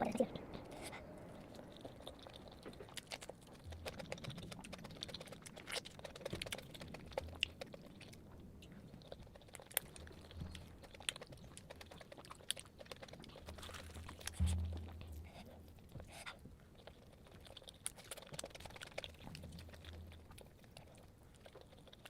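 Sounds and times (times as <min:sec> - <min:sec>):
person chewing with wet mouth sounds: 0:00.0 - 0:22.0.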